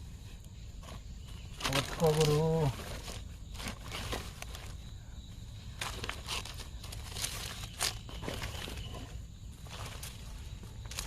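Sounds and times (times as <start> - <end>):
dry leaves rustling and crackling: 0.8 - 5.0, 5.7 - 11.0.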